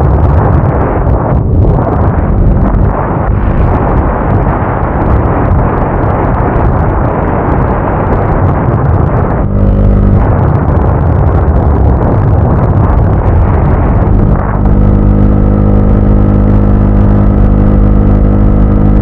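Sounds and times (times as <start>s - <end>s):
loud rushing noise: 0.0s - 19.0s
motorcycle riding: 0.0s - 19.0s.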